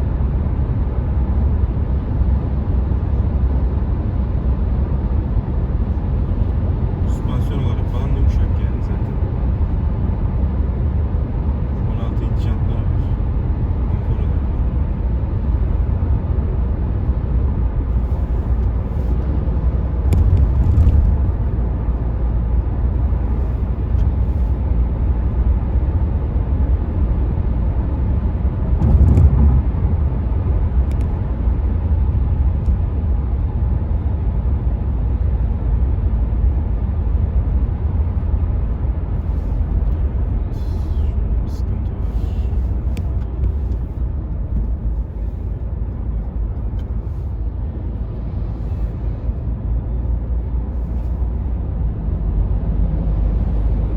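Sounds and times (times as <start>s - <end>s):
car cabin road rumble: 0.0s - 53.9s.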